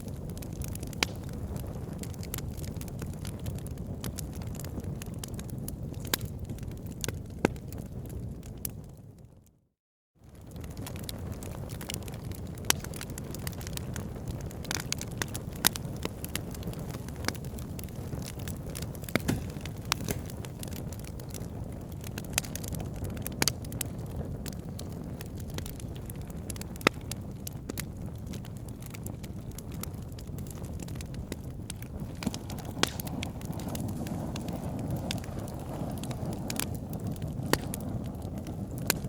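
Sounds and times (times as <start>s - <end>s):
campfire crackling and popping: 0.0s - 9.2s, 10.2s - 39.0s.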